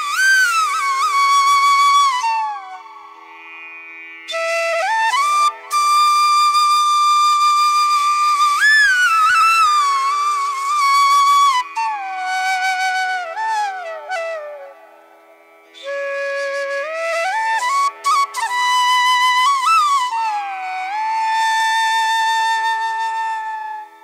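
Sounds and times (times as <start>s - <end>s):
flute playing slow melody: 0.0s - 3.3s, 4.3s - 24.0s.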